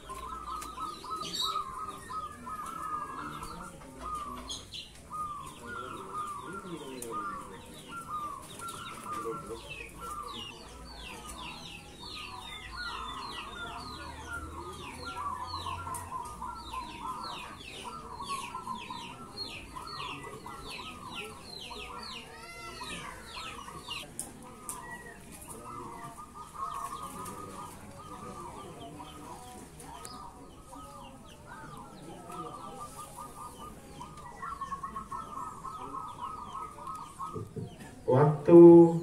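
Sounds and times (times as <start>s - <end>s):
chickens clucking: 0.0s - 39.0s
doves cooing: 0.0s - 39.0s.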